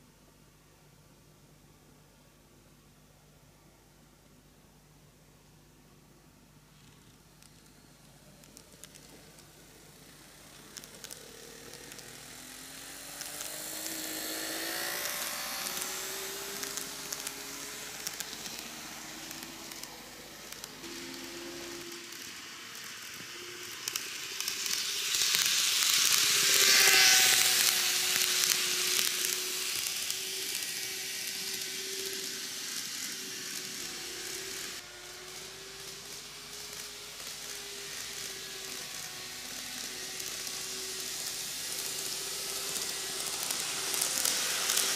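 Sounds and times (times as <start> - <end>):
wheels hissing on rails: 6.8 - 44.9
model train motor whining: 7.4 - 44.9.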